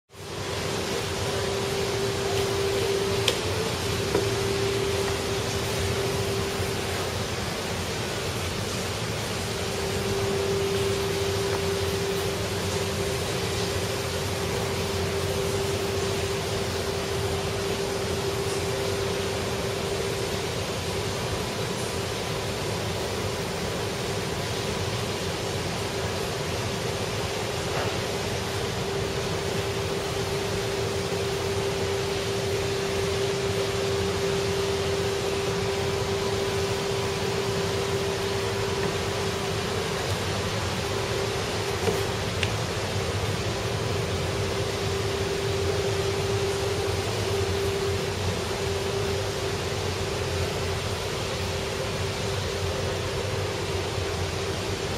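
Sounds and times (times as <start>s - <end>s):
machine hiss and hum: 0.1s - 54.9s.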